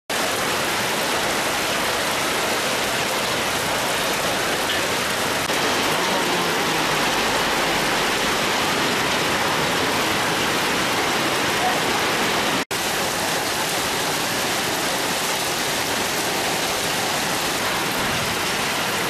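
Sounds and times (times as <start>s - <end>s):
heavy rain and hail pelting: 0.1s - 19.0s.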